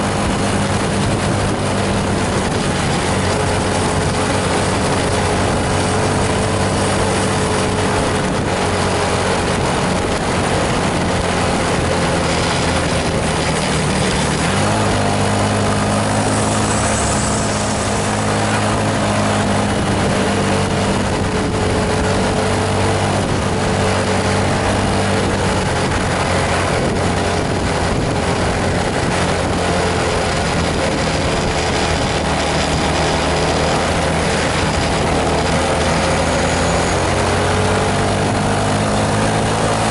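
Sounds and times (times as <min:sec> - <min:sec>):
bus diesel engine running: 0:00.0 - 0:39.9
road and rain hiss: 0:00.0 - 0:39.9.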